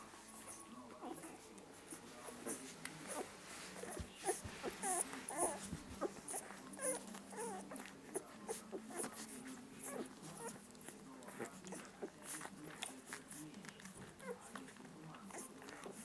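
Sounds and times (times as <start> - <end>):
puppies squeaking and whimpering: 0.3 - 16.0.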